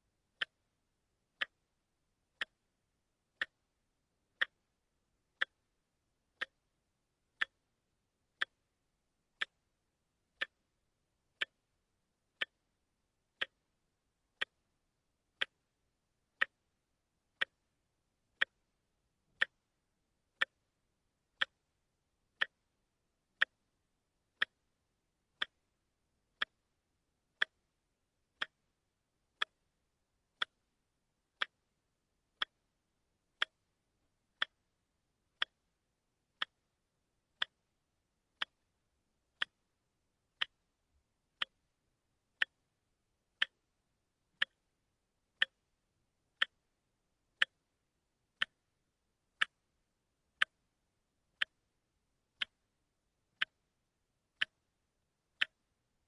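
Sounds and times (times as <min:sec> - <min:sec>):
watch ticking: 0:00.0 - 0:47.8, 0:48.4 - 0:53.7, 0:54.3 - 0:55.8.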